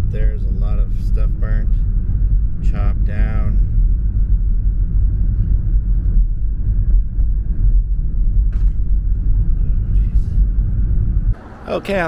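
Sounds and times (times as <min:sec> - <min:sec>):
loud low rumble: 0:00.0 - 0:11.4.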